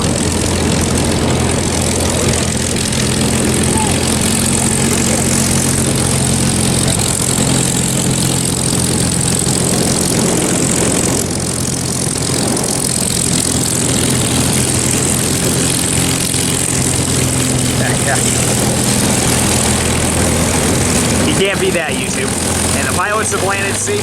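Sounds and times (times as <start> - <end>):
propeller plane engine idling: 0.0 - 24.0.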